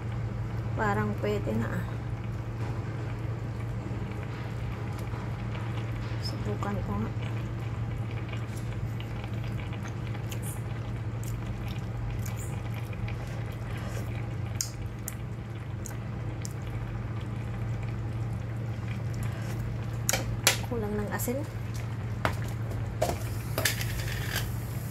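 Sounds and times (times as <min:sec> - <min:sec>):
sauce bubbling at a simmer: 0:00.0 - 0:24.9
steady low hum: 0:00.0 - 0:24.9.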